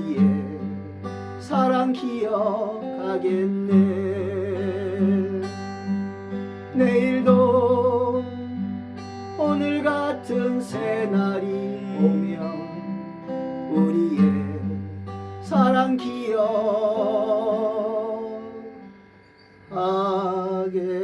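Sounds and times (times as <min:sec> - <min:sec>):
acoustic guitar ballad: 0:00.0 - 0:21.0.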